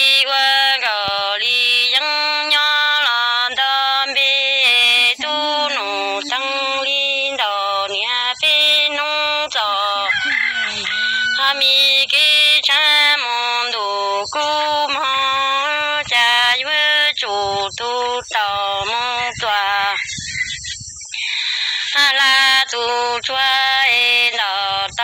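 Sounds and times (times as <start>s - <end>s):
person singing chanted poetry: 0.0s - 20.3s, 21.1s - 25.0s.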